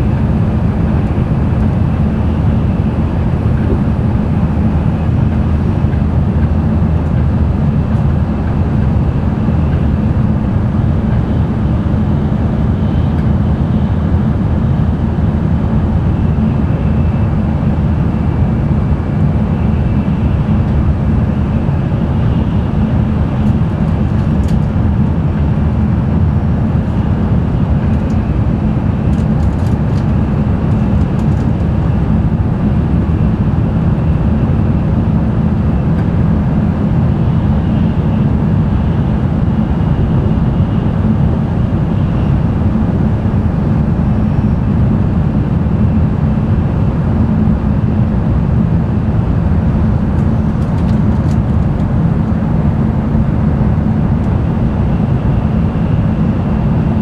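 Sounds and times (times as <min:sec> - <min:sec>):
train cabin deep rumble: 0:00.0 - 0:57.0.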